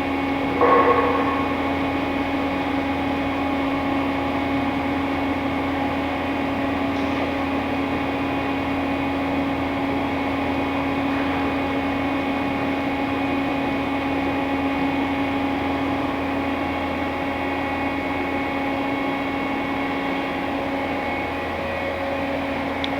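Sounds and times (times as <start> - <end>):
machining center hum and whine: 0.0 - 22.9.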